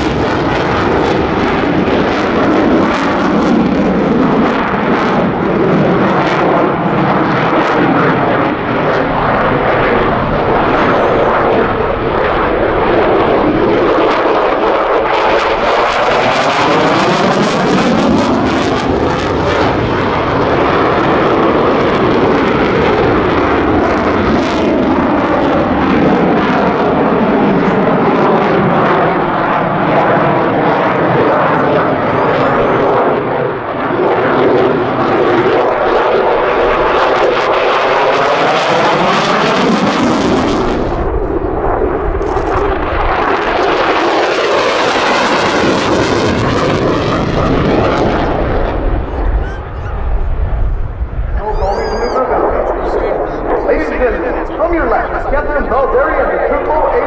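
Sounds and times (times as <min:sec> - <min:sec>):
deep jet rumble: 0:00.0 - 0:57.0
jet flying overhead: 0:00.0 - 0:57.0.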